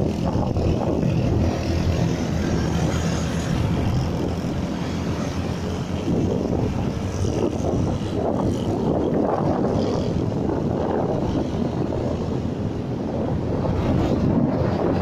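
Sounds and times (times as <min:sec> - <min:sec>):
motorcycle engine and road noise: 0:00.0 - 0:15.0
wind rush over microphone: 0:00.0 - 0:15.0.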